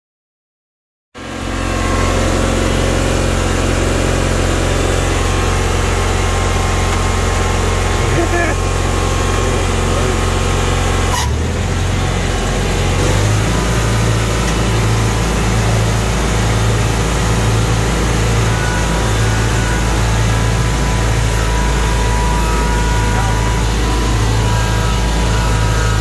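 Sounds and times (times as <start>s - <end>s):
garden tractor engine running: 1.2s - 26.0s
low pulsing rumble: 1.4s - 26.0s.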